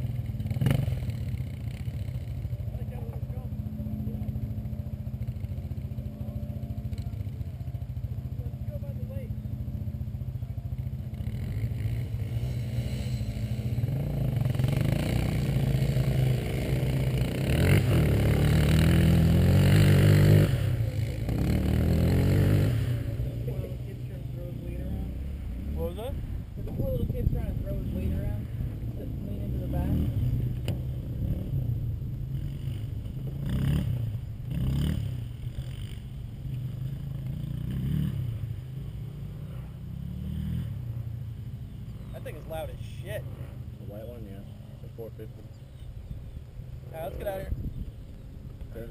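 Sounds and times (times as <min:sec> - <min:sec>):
engine revving: 0:00.0 - 0:07.4, 0:08.3 - 0:41.0.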